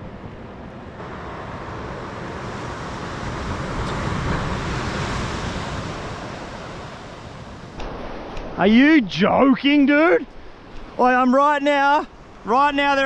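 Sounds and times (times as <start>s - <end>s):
ocean surf on sandy beach: 0.0s - 13.0s.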